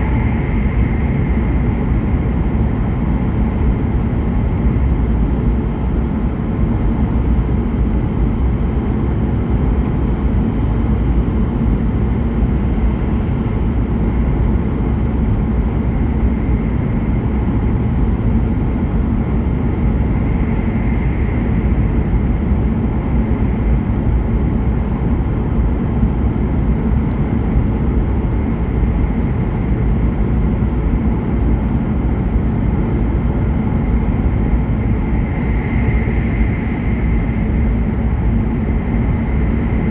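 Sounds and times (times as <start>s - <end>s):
faint whine: 0.0s - 39.9s
train cabin low rumble: 0.0s - 39.9s.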